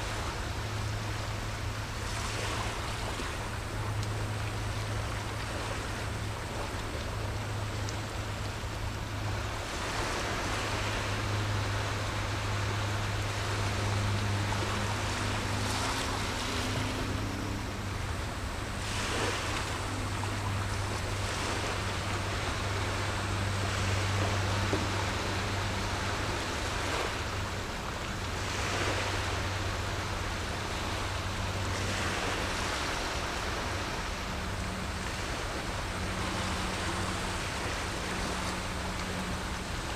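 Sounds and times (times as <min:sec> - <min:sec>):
small waves washing on shore: 0:00.0 - 0:39.9
steady low hum: 0:00.0 - 0:39.9.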